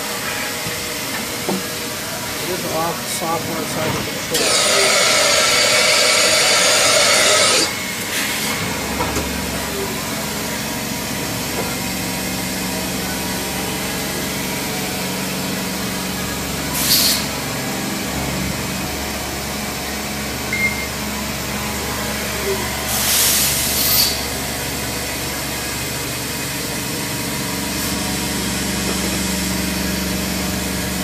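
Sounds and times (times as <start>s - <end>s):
machine hum with steady tones: 0.0s - 31.0s.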